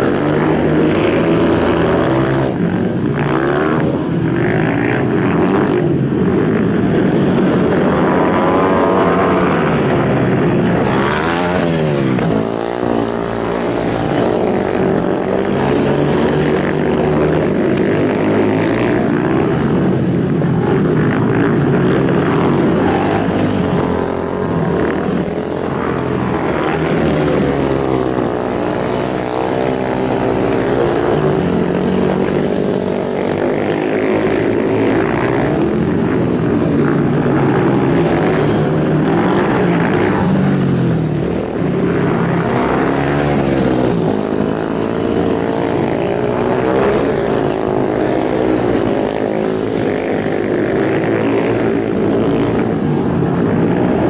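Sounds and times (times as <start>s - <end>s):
motorcycle engines at high revs: 0.0s - 54.0s.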